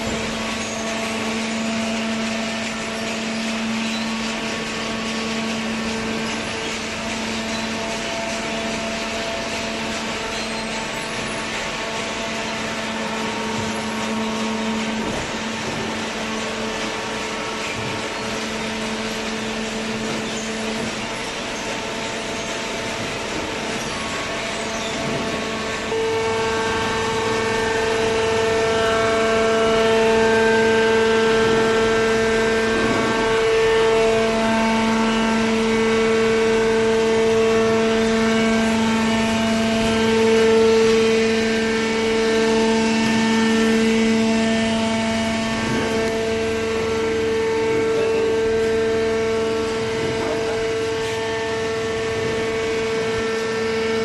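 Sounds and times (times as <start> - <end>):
baler machine humming and whining: 0.0 - 54.0.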